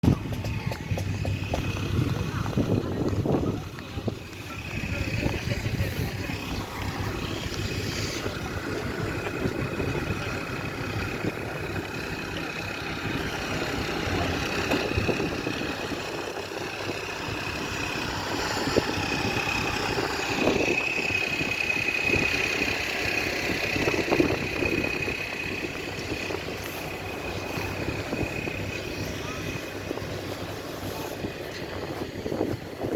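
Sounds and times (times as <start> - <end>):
engine running: 0.0 - 32.9.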